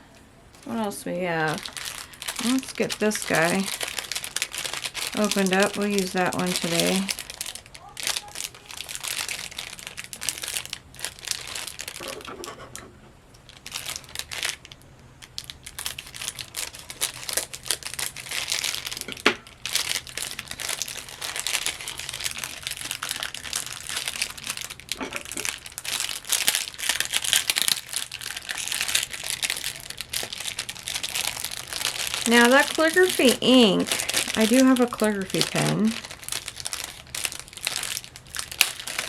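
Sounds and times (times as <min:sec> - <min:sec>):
packaging crinkling: 0:00.0 - 0:39.0.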